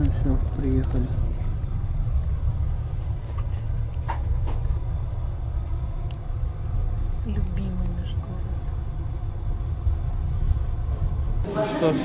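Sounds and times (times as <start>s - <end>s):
train rumbling inside a car: 0.0s - 12.0s.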